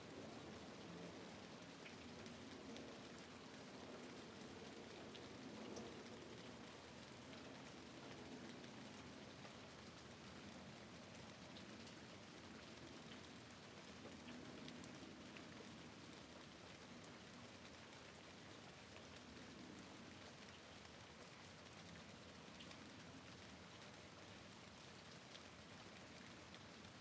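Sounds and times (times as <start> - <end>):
rain on a window: 0.0 - 27.0.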